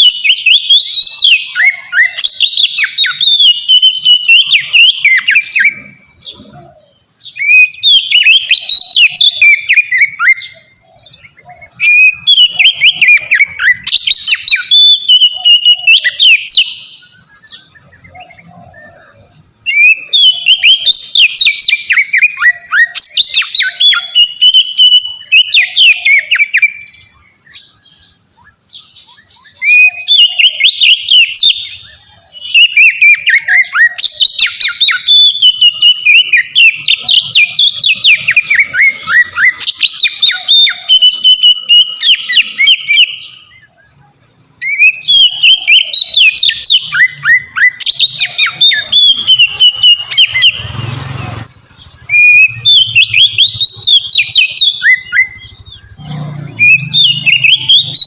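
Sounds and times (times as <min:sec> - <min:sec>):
bird singing whistled phrases: 0:00.0 - 0:44.0, 0:44.6 - 0:51.0, 0:51.8 - 0:58.0.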